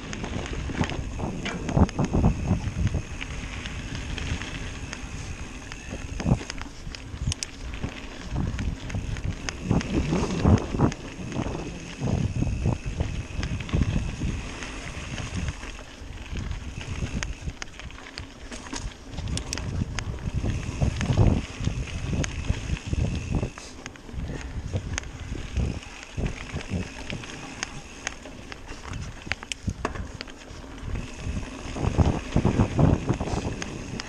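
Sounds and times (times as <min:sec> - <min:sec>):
bike knocks and rattles: 0:00.0 - 0:15.7, 0:16.4 - 0:34.0
bike tyres on dirt: 0:00.0 - 0:34.0
wind on the microphone: 0:00.0 - 0:34.0.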